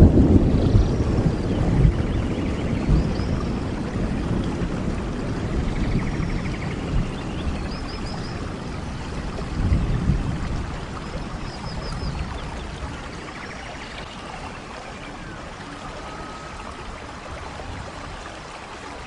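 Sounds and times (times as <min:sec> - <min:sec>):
low rumbling: 0:00.0 - 0:18.0
running water: 0:00.0 - 0:19.0
steady rain: 0:00.0 - 0:19.0.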